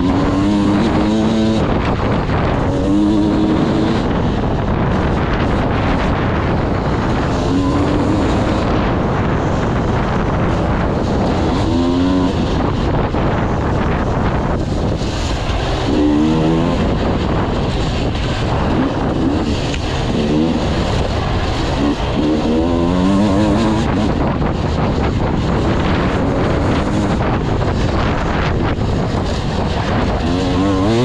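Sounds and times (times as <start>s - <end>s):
dirt bike engine revving: 0.0s - 31.0s
wind noise on microphone: 0.0s - 31.0s.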